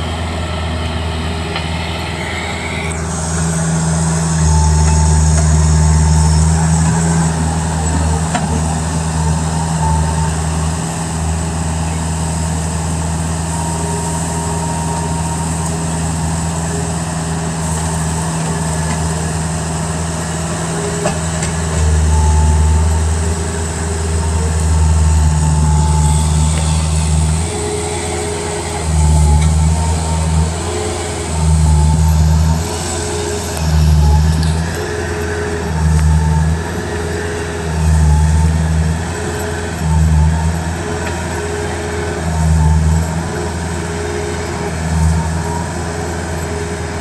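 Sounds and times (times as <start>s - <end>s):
loader diesel engine droning: 0.0s - 47.0s.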